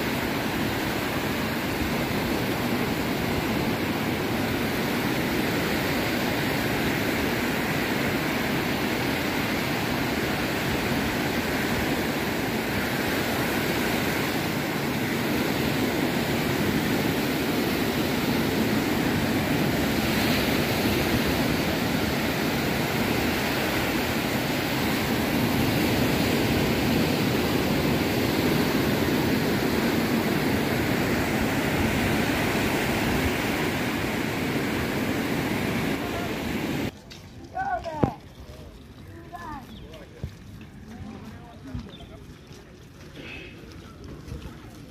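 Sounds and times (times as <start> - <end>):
ocean surf breaking on beach: 0.0 - 36.9.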